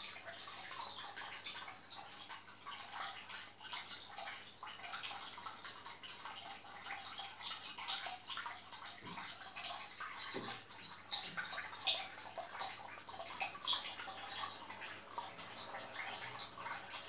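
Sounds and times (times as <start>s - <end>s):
small drips and splashes: 0.0s - 17.0s
water bubbling and trickling: 0.0s - 17.0s.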